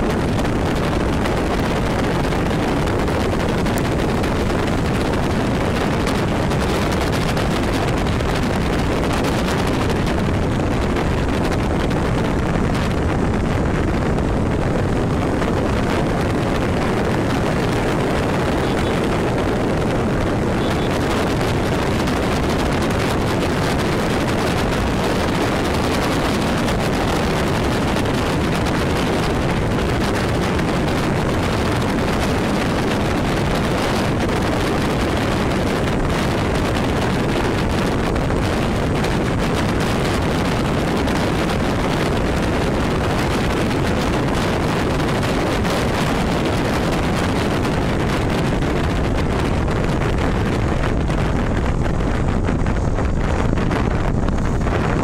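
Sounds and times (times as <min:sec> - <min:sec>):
vehicle engine and road noise: 0:00.0 - 0:55.0
wind buffeting microphone: 0:00.0 - 0:55.0.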